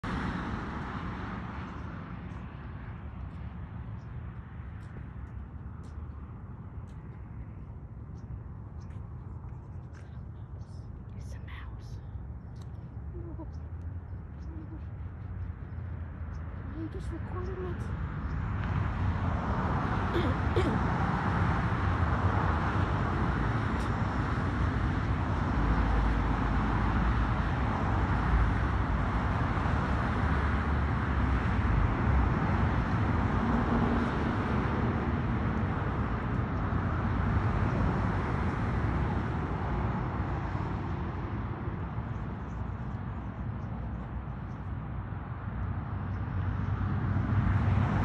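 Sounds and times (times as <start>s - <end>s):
road traffic passing: 0.0s - 48.0s.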